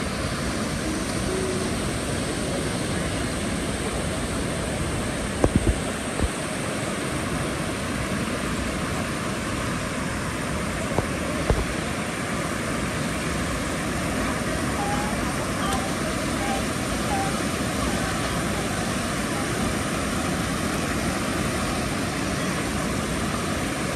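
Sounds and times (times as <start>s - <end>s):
water rushing over weirs: 0.0s - 23.9s.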